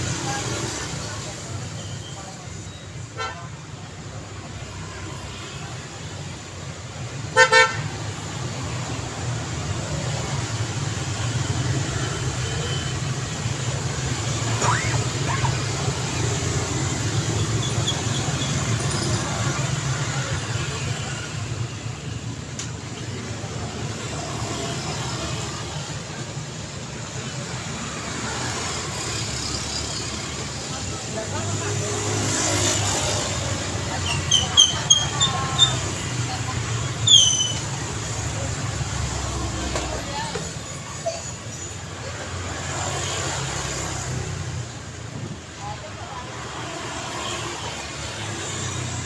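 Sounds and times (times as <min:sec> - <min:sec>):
car engines: 0:00.0 - 0:49.0
road traffic: 0:00.0 - 0:49.0.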